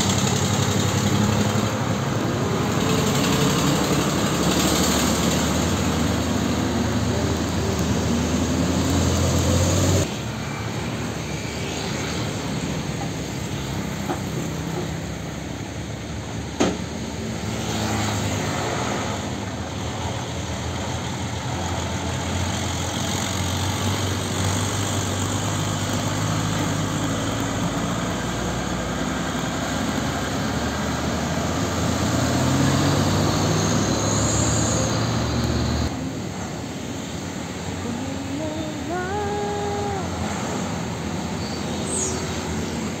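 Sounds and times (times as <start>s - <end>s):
truck engine revving: 0.0s - 10.2s, 16.9s - 43.0s
diesel trucks driving past: 0.0s - 43.0s.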